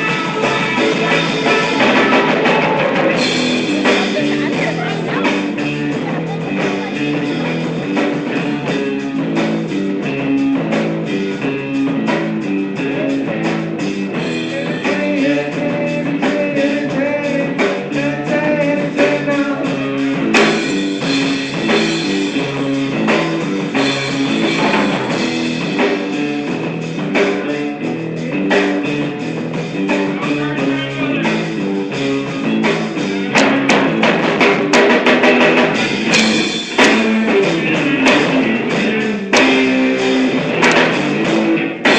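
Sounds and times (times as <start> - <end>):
rock music with guitar and drums: 0.0 - 41.9.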